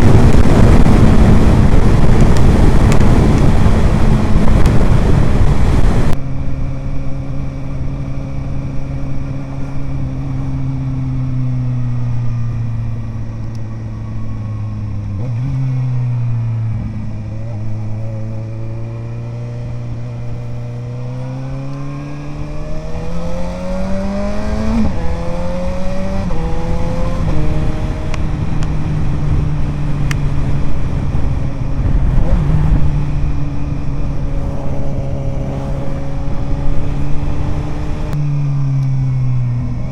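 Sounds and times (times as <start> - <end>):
motorcycle gear upshifts: 0.0 - 6.2, 7.6 - 38.2
motorcycle engine revving: 0.0 - 39.9.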